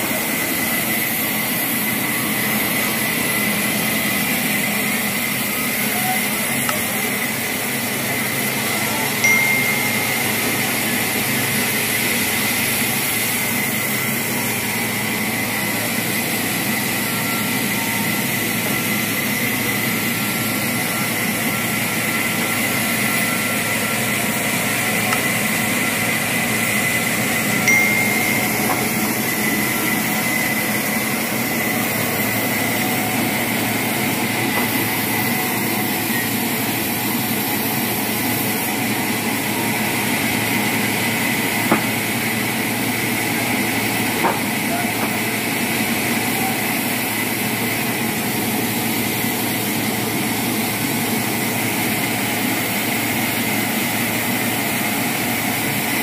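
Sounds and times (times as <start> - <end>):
machine running with high whine: 0.0 - 56.0.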